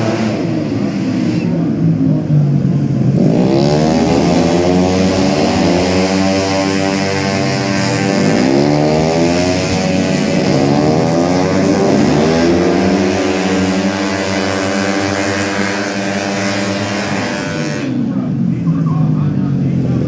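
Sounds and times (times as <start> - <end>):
scooter engines revving: 0.0 - 20.0.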